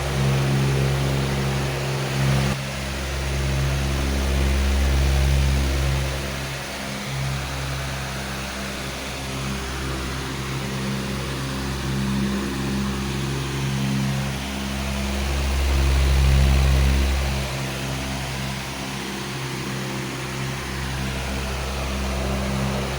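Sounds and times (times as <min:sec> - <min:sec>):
electric fan running: 0:00.0 - 0:22.9.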